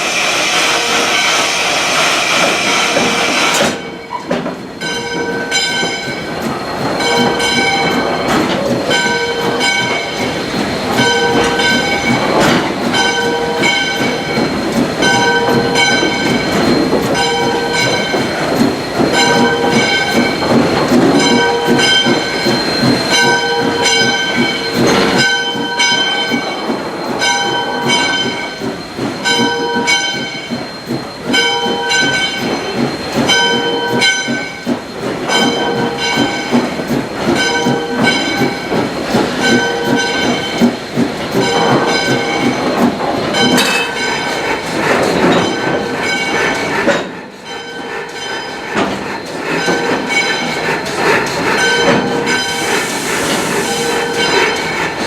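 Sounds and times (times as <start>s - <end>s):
steam train rolling and clattering: 0.0s - 55.0s.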